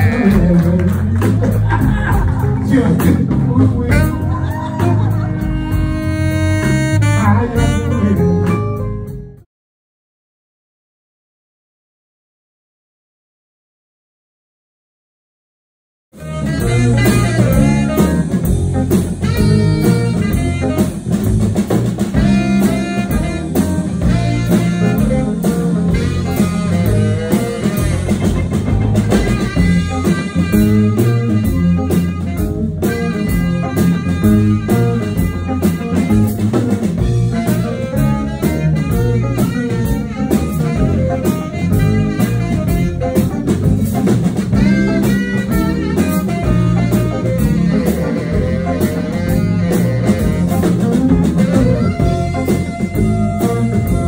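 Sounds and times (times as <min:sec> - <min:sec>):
blues band playing: 0:00.0 - 0:09.4, 0:16.2 - 0:54.0.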